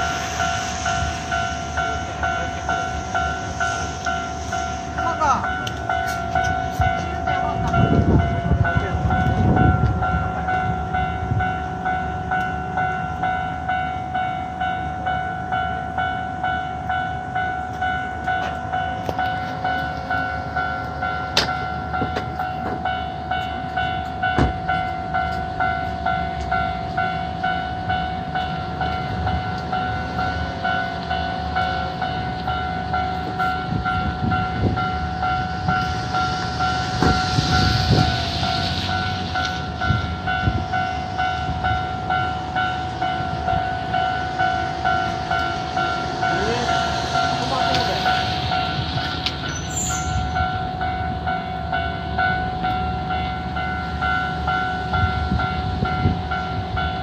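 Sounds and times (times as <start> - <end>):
level crossing warning bell ringing: 0.0 - 57.0.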